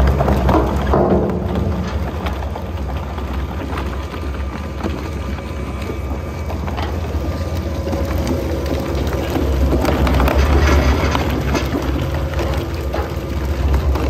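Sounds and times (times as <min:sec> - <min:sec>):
plastic shredder humming: 0:00.0 - 0:14.0.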